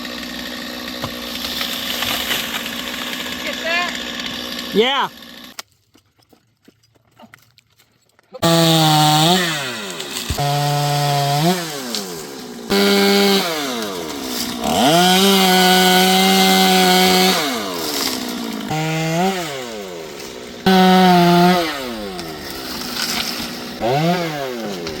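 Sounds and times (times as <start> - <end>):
chainsaw engine revving: 0.0 - 5.6, 8.4 - 25.0.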